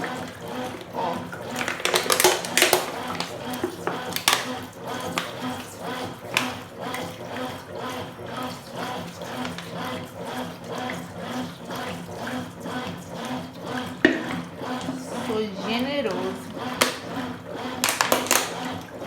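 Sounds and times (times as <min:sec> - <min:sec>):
washing machine sloshing water: 0:00.0 - 0:19.0.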